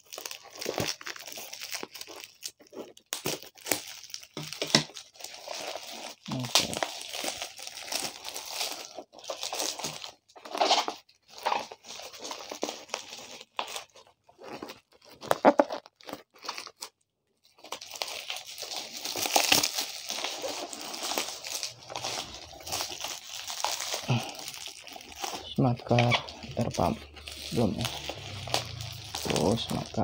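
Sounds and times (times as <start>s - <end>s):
plastic wrap tearing and crinkling: 0.0s - 30.0s.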